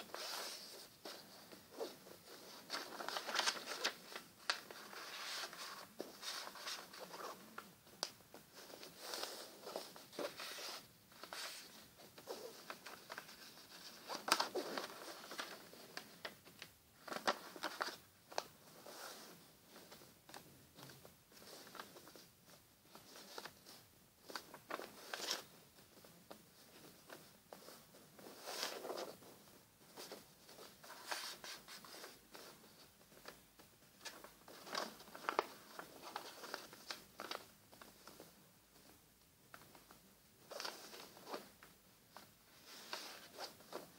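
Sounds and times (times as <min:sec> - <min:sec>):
paper rustling and crinkling: 0:00.0 - 0:43.9.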